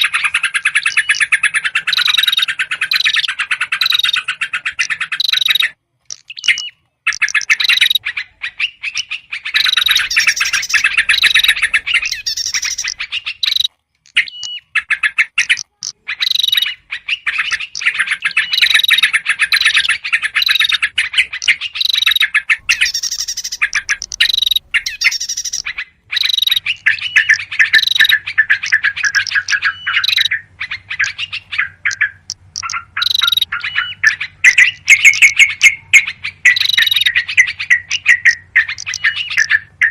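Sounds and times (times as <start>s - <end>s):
birds chattering: 0.0s - 39.9s
whistled bird notes: 0.0s - 39.9s.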